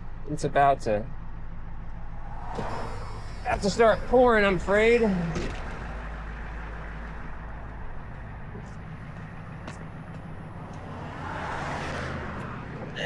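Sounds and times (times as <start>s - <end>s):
truck engine idling: 0.0s - 11.2s
highway traffic: 0.0s - 13.0s
vehicle passing: 1.1s - 13.0s.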